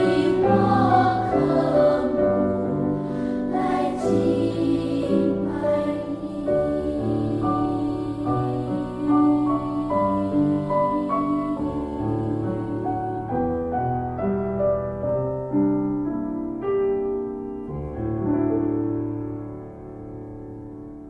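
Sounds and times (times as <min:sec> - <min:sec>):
piano playing slow chords: 0:00.0 - 0:21.0.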